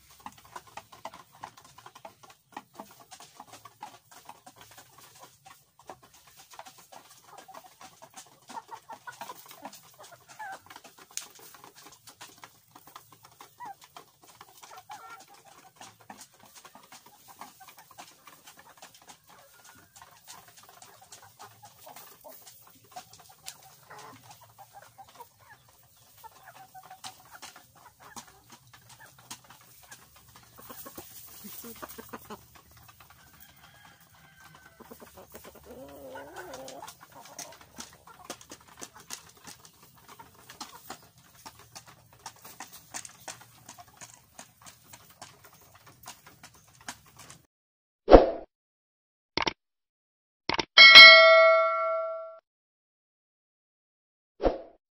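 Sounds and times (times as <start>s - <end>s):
beaks pecking in wooden trough: 0.0s - 47.4s
hens clucking: 0.0s - 47.4s.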